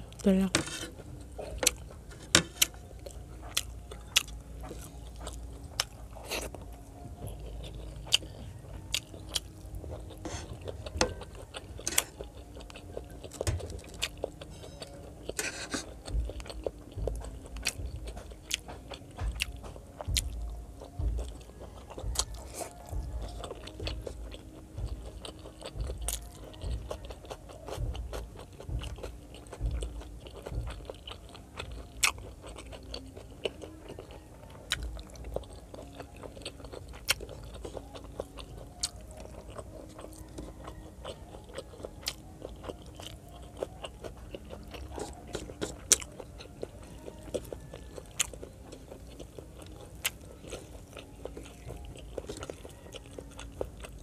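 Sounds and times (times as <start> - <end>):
food crunching: 0.0 - 54.0
person chewing food: 0.0 - 54.0.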